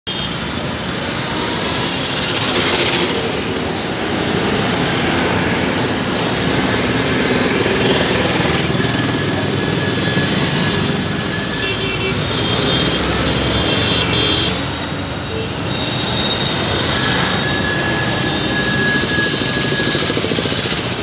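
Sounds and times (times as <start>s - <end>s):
traffic rumble: 0.1s - 21.0s.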